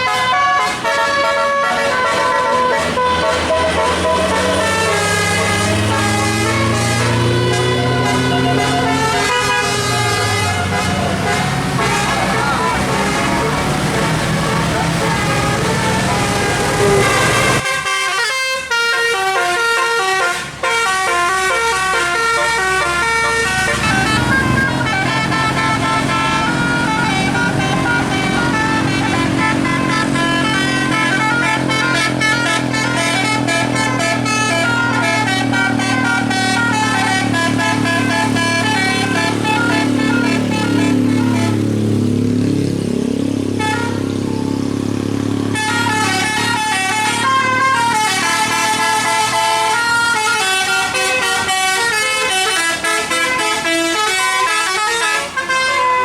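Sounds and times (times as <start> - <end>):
musical air horn playing tune: 0.0 - 42.4, 43.5 - 44.5, 45.2 - 56.0.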